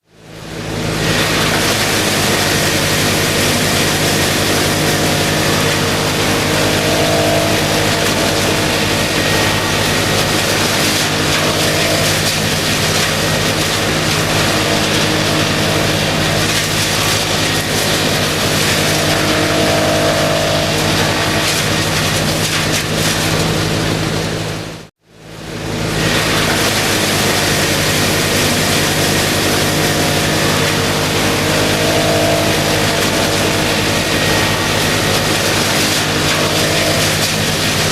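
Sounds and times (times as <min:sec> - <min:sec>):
wood chipper engine drone: 0:00.0 - 0:37.9
wood chipper grinding: 0:00.1 - 0:37.9
high whine: 0:00.2 - 0:24.8, 0:25.4 - 0:37.9.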